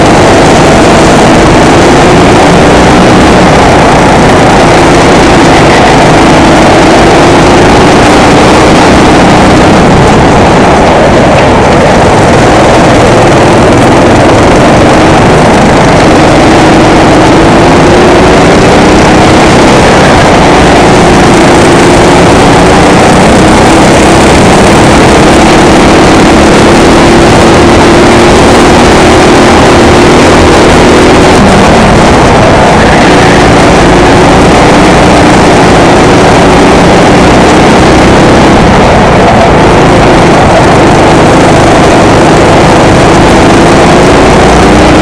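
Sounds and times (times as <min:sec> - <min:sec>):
go-kart engine running hard: 0:00.0 - 0:45.0.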